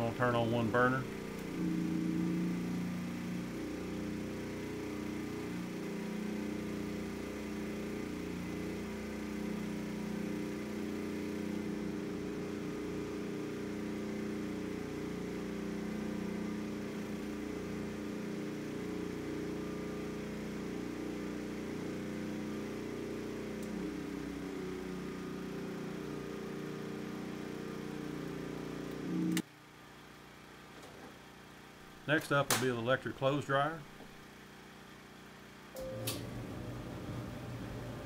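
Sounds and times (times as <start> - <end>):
generator engine running under load: 0.0 - 29.4, 31.3 - 38.0.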